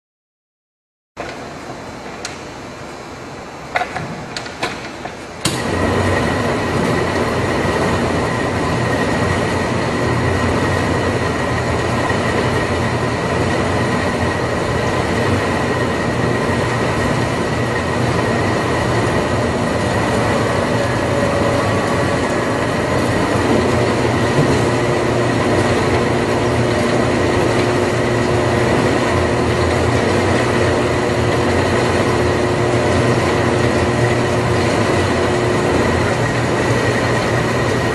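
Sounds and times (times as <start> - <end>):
conveyor belt rumbling and whining: 1.2 - 37.9.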